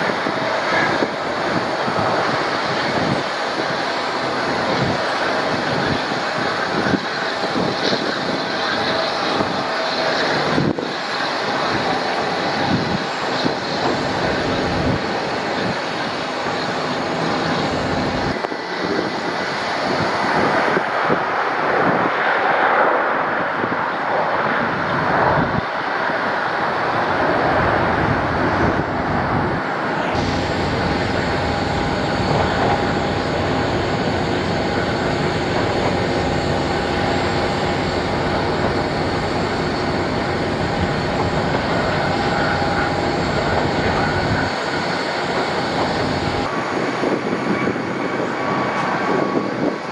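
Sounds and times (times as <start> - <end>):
airliner engines running: 0.0 - 49.9.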